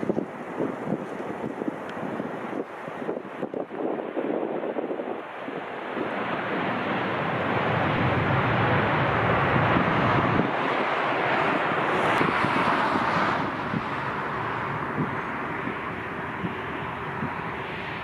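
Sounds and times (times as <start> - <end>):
jet engine noise: 0.0 - 18.0
wind buffeting microphone: 0.0 - 18.0.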